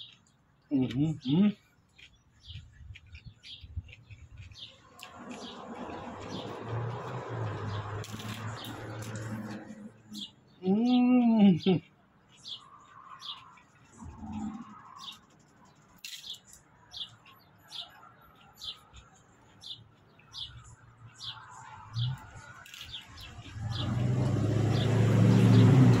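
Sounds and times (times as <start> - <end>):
small bird chirping: 0.0 - 24.1.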